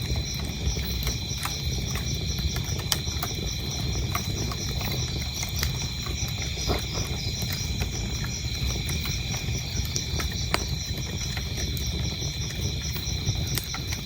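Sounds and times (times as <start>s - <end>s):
crickets chirping: 0.0s - 14.0s
wood fire crackling and popping: 0.0s - 14.0s.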